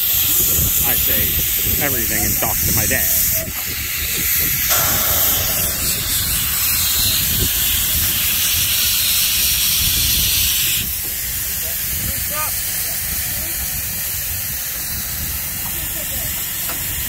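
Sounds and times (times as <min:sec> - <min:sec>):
wind buffeting microphone: 0:00.0 - 0:12.4, 0:13.1 - 0:17.0
steam locomotive hissing: 0:00.0 - 0:17.0.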